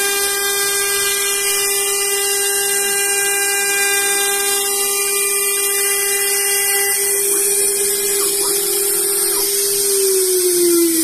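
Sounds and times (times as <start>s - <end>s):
milling machine whining: 0.0s - 11.0s.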